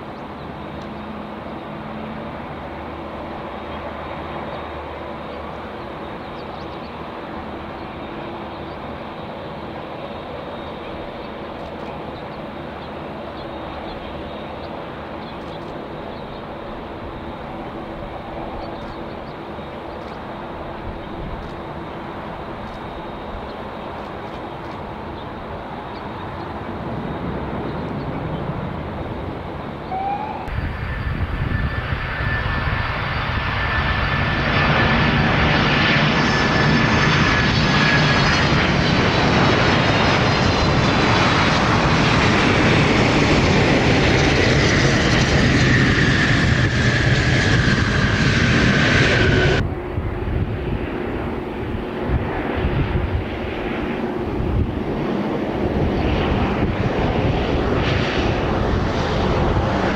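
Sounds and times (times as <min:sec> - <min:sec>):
jet aircraft engines passing: 0:00.0 - 0:59.9.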